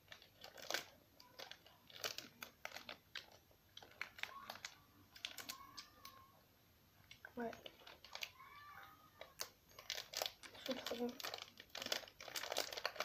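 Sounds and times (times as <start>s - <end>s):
chewing gummy sweets: 0.0s - 6.2s, 7.0s - 13.0s
plastic packet crinkling: 0.0s - 6.2s, 7.0s - 13.0s.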